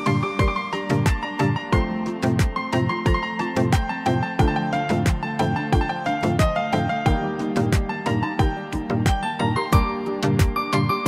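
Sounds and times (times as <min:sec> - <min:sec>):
held keyboard chords: 0:00.0 - 0:11.0
deep kick drum beat: 0:00.4 - 0:10.6.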